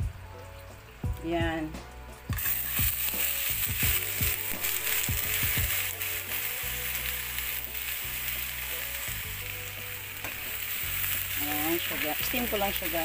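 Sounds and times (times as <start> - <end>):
shrimp sizzling in a wok: 2.1 - 13.0.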